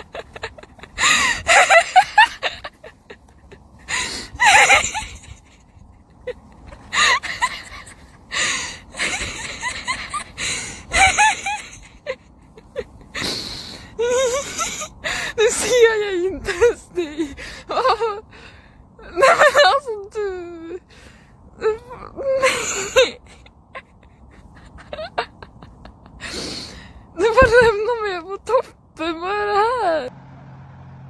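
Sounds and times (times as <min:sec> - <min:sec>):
person laughing breathlessly: 0:00.0 - 0:19.7, 0:20.6 - 0:27.8.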